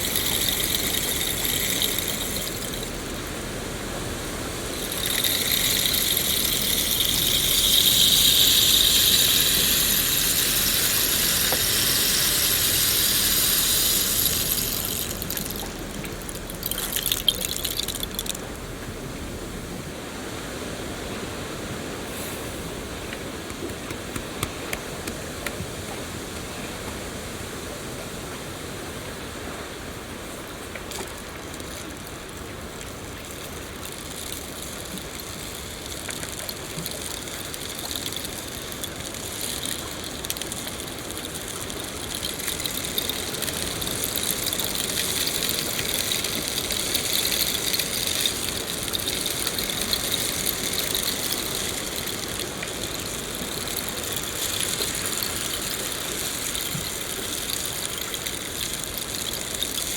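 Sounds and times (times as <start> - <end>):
rain drop ticks: 0.0 - 18.8, 30.8 - 59.9
rain falling: 0.0 - 19.6, 31.1 - 59.9.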